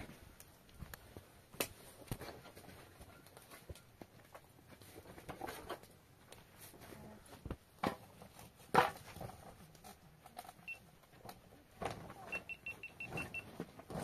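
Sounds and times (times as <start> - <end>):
knocks and thumps of poles and tarps: 0.8 - 14.0.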